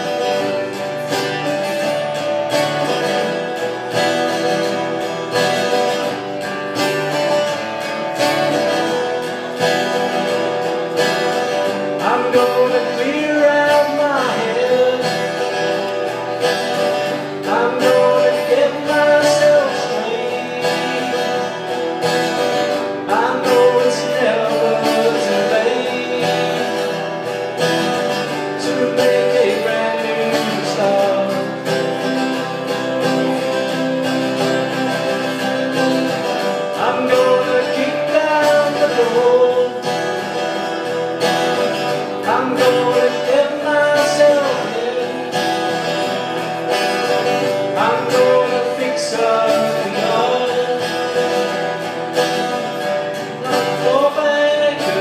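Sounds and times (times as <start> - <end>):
two acoustic guitars playing: 0.0 - 55.0
man singing: 8.7 - 55.0.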